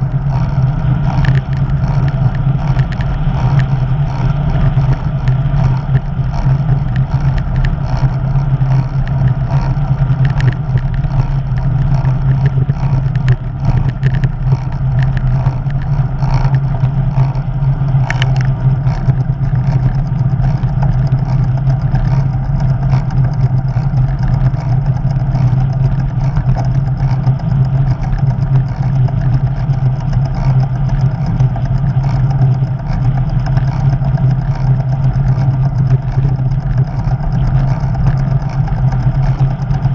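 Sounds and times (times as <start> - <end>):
bicycle road rumble: 0.0 - 39.9.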